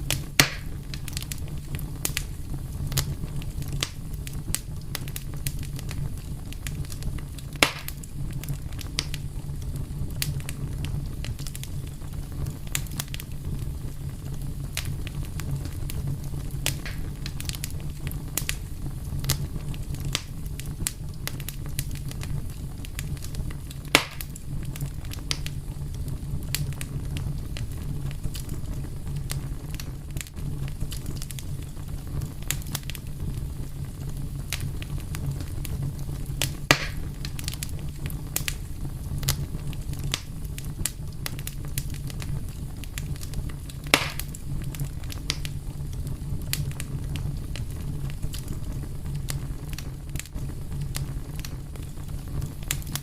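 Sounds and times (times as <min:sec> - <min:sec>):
fire crackling: 0:00.0 - 0:53.0
fire low rumble: 0:00.0 - 0:53.0
loud fire pops: 0:00.0 - 0:53.0.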